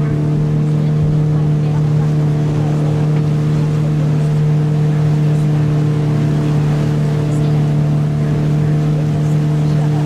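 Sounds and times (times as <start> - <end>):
boat motor droning: 0.0 - 10.0.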